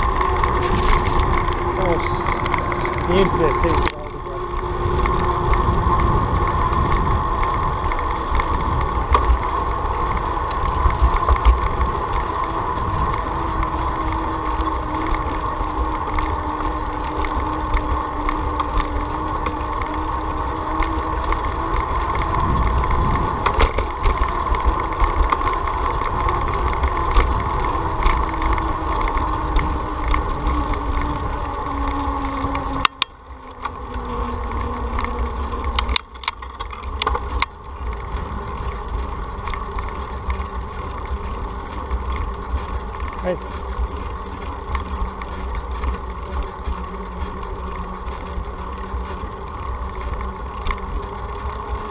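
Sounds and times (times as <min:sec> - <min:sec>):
bicycle road noise: 0:00.0 - 0:51.9
wind rumble on microphone: 0:00.0 - 0:51.9.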